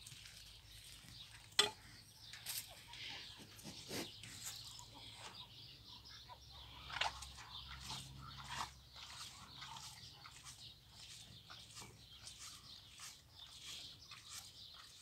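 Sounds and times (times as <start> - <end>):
poultry clucking: 1.2 - 15.0.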